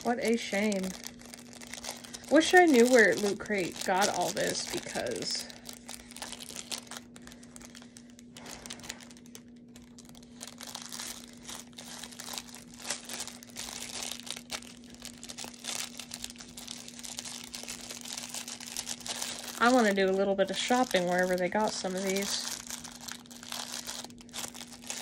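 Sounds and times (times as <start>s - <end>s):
plastic packaging crinkling: 0.0s - 25.0s
steady low hum: 0.0s - 25.0s.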